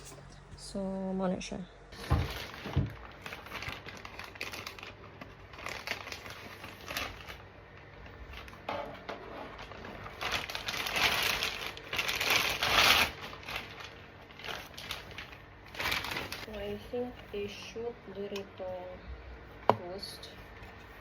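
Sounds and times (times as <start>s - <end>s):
crinkling and rustling handling: 1.9s - 18.8s.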